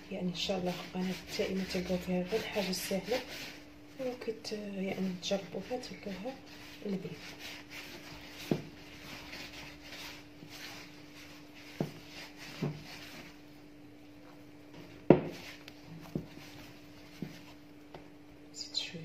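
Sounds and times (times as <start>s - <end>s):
hands kneading dough: 0.0s - 18.3s.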